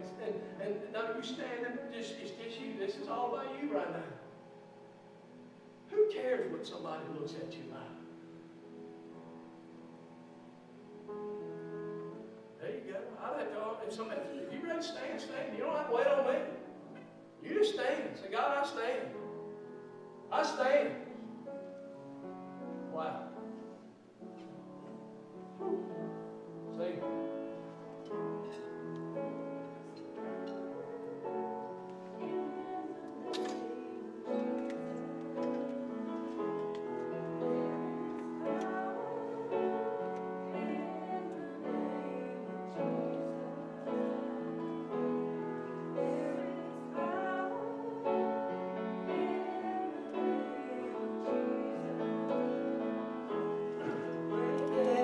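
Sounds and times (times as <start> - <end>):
voices singing a hymn: 0.0 - 4.8, 11.2 - 19.7, 20.3 - 55.0
piano accompaniment: 0.0 - 55.0.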